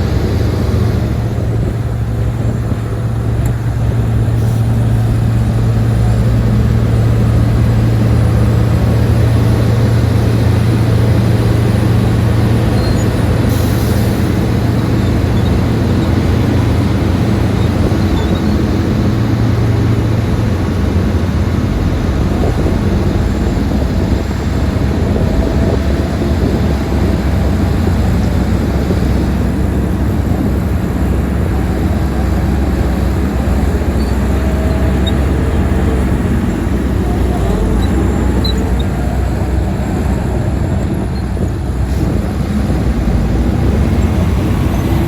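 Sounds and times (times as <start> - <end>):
heavy machinery diesel engine running: 0.0 - 45.0.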